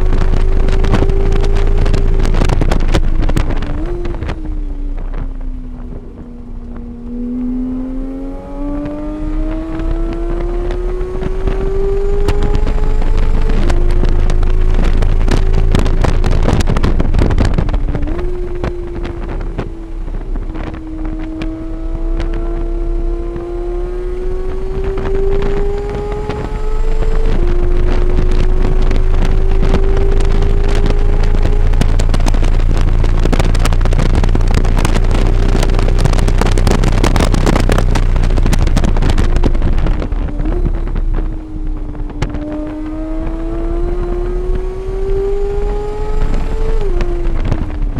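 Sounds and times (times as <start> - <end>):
race car engine revving: 0.0 - 47.9
wind buffeting microphone: 0.0 - 47.9.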